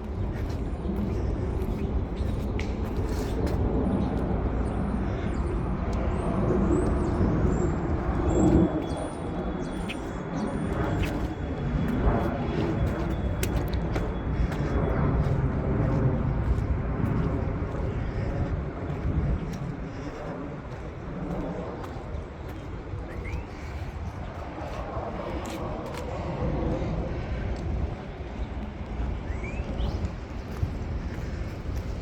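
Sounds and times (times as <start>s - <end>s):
city traffic rumble: 0.0s - 32.0s.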